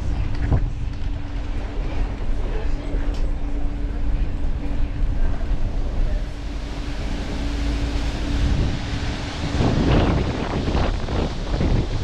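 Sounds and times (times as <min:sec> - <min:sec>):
bus engine and road rumble: 0:00.0 - 0:12.0
droning hum: 0:00.0 - 0:12.0.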